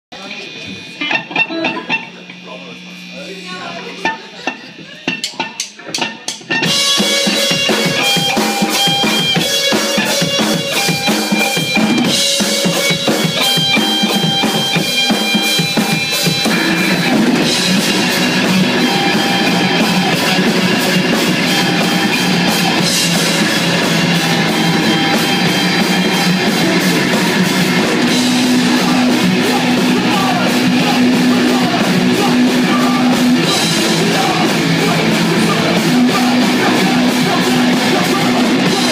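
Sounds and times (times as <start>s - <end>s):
live rock band playing: 0.2s - 38.9s
drum hits: 4.0s - 38.9s.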